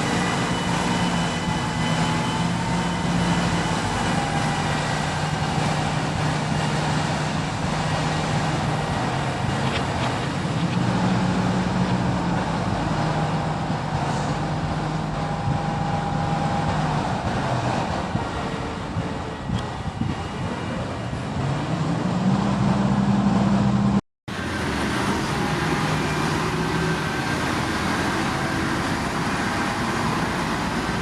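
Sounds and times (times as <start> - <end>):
heavy machinery diesel engine running: 0.0 - 31.0.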